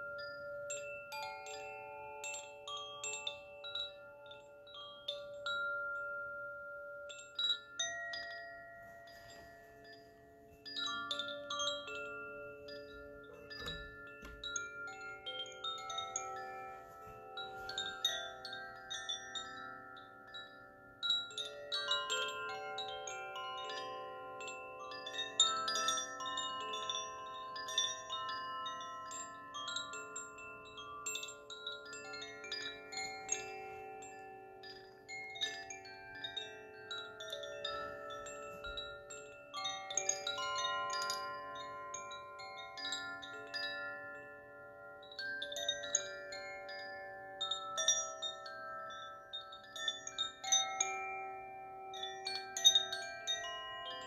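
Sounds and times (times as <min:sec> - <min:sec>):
bamboo chimes ringing: 0:00.0 - 0:54.0.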